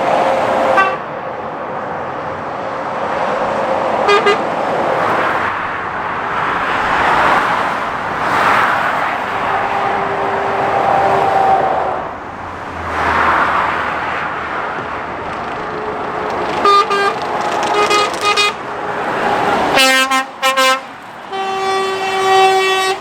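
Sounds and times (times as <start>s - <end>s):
steady vehicle whine: 0.0s - 23.0s
vehicles passing on road: 0.0s - 23.0s.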